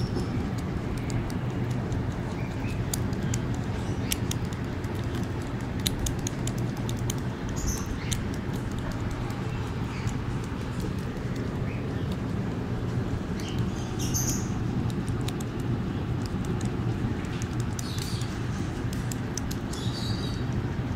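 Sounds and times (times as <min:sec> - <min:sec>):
low background hum: 0:00.0 - 0:20.9
rabbits chewing leaves: 0:00.0 - 0:20.9.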